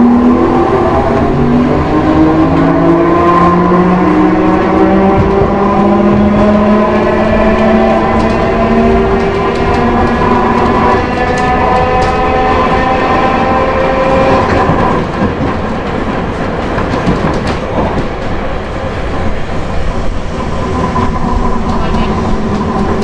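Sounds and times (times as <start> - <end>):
tram motor and gear whine: 0.0 - 23.0
tram wheels rumbling: 0.0 - 23.0
wheels clicking over rails: 0.0 - 23.0.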